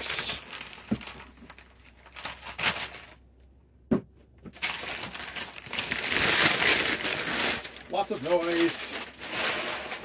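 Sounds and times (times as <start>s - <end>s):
paper crinkling and rustling: 0.0s - 3.2s, 4.5s - 10.0s.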